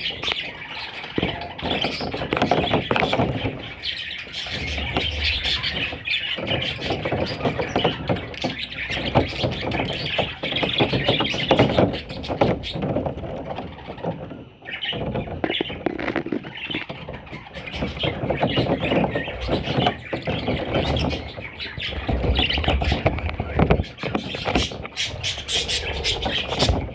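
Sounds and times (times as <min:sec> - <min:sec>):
budgerigars chattering and chirping: 0:00.0 - 0:26.9.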